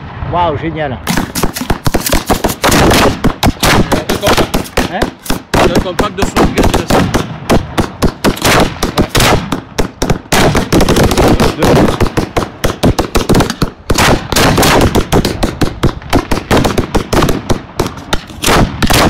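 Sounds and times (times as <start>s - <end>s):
fireworks firing in rapid volley: 0.0s - 19.0s.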